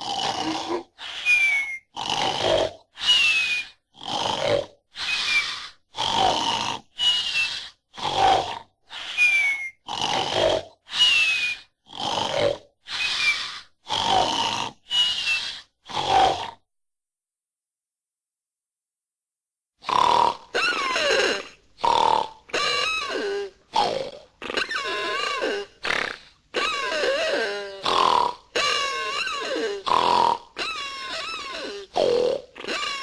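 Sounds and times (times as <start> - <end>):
cartoon snoring with whistles: 0.0 - 16.7, 19.8 - 33.0.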